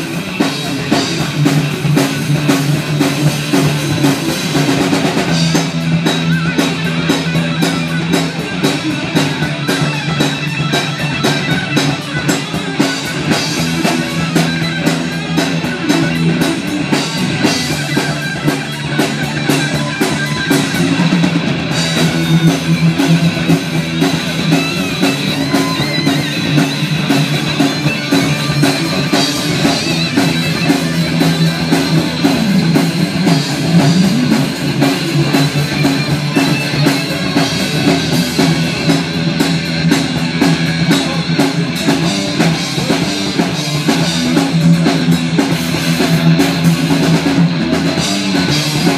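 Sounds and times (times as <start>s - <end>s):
drum kit: 0.0s - 48.9s
electric guitar: 0.0s - 48.9s
live rock band playing: 0.0s - 48.9s.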